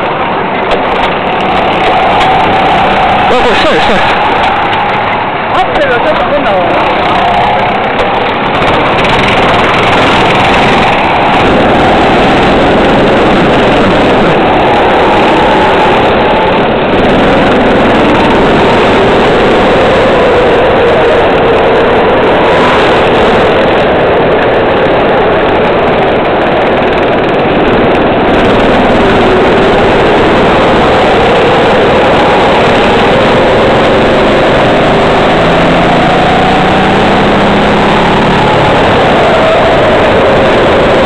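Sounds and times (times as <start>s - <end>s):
kart engine revving: 0.0s - 41.0s.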